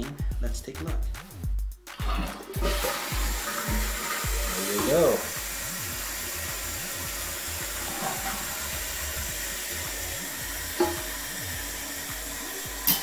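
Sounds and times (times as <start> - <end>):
toilet fill valve hissing: 1.9 - 13.0.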